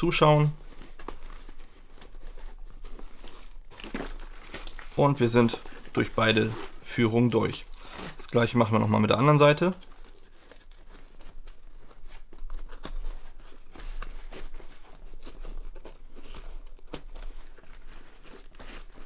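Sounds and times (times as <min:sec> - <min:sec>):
nylon fabric rustling and scraping: 0:00.0 - 0:19.0.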